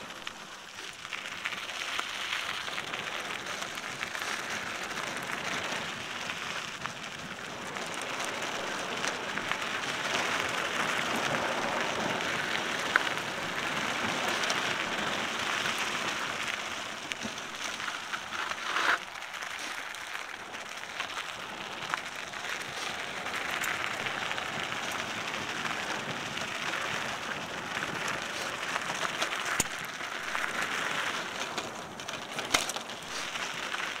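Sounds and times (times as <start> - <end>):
bike tyres rolling on dirt: 0.0 - 34.0.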